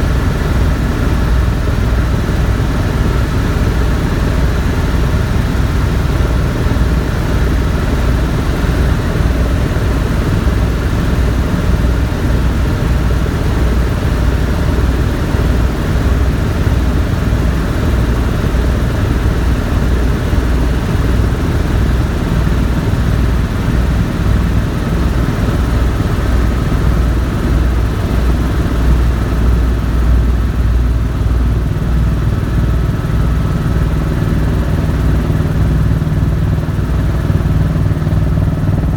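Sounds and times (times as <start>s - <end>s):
helicopter flying: 0.0s - 38.9s.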